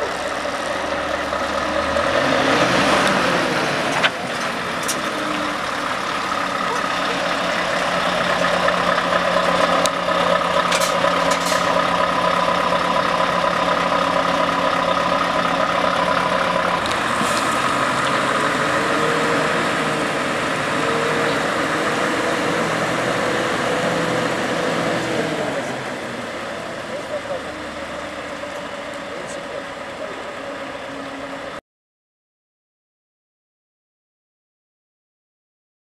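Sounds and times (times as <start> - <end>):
diesel truck engine running: 0.0 - 31.6.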